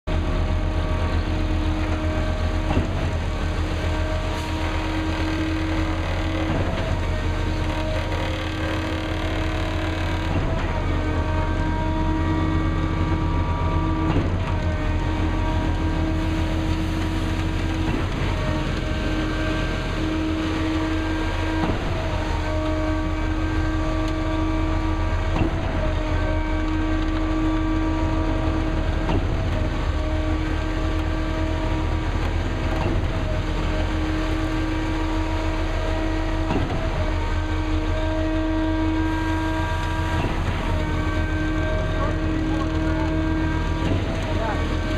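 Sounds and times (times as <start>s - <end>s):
truck engine drone: 0.0s - 44.9s
steady whining tones: 0.1s - 44.9s.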